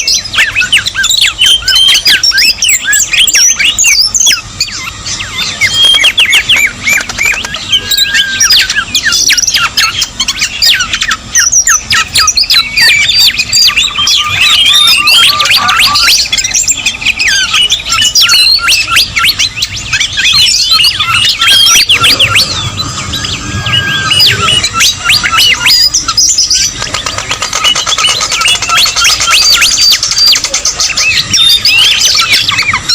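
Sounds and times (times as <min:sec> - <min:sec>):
many birds chirping and squawking: 0:00.0 - 0:32.9.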